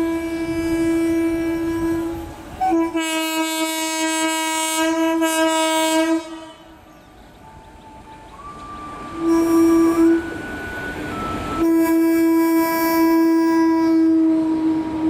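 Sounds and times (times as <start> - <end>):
locomotive air horn: 0.0 - 6.9, 8.5 - 15.0.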